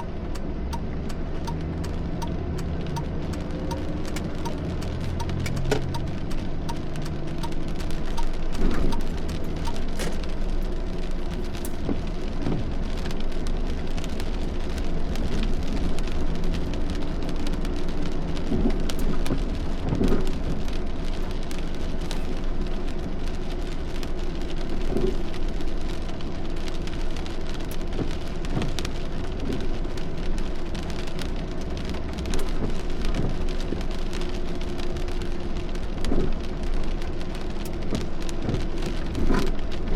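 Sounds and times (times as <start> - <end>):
rain drops on hard surface: 0.0 - 39.9.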